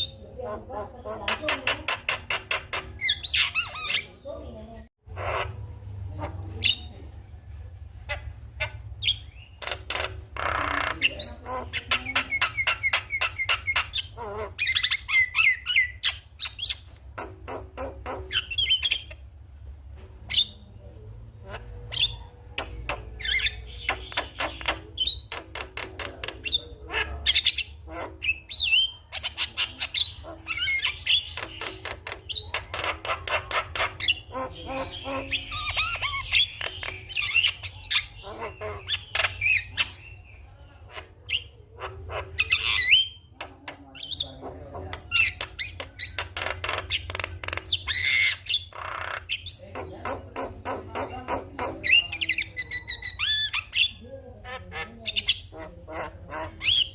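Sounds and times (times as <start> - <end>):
myna chattering and singing: 0.0 - 19.4, 20.3 - 56.9.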